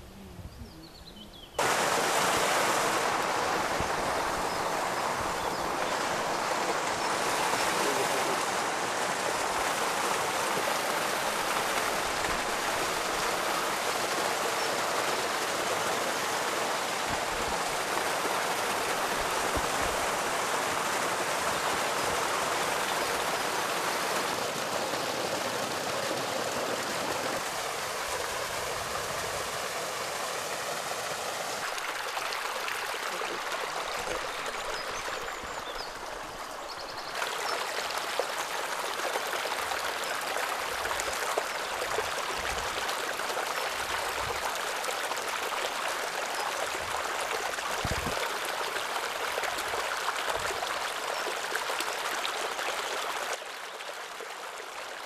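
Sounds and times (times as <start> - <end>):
shallow stream flowing: 0.8 - 55.0
water cascading down a bank: 1.6 - 55.0.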